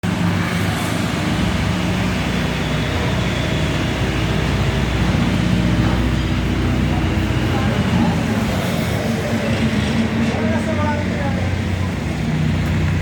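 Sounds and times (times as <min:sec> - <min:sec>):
pump engine humming: 0:00.0 - 0:13.0.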